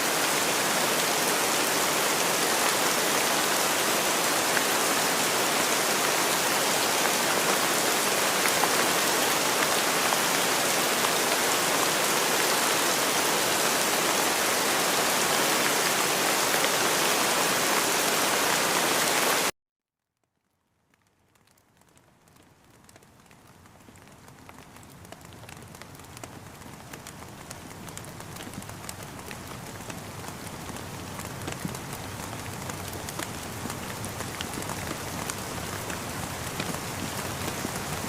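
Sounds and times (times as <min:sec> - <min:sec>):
steady rain hiss: 0:00.0 - 0:19.5, 0:21.0 - 0:38.0.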